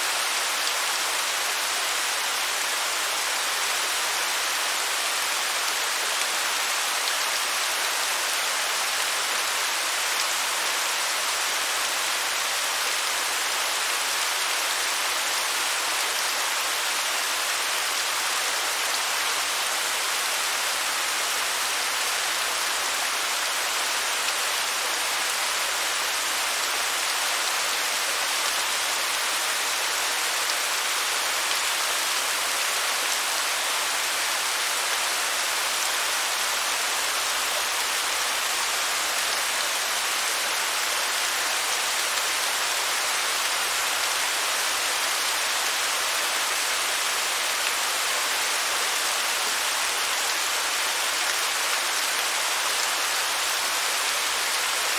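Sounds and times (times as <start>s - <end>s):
waterfall hiss: 0.0s - 54.9s.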